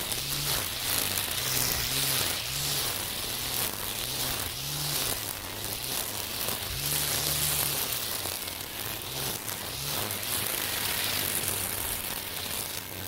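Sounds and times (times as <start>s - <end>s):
string trimmer cutting weeds: 0.0s - 13.0s.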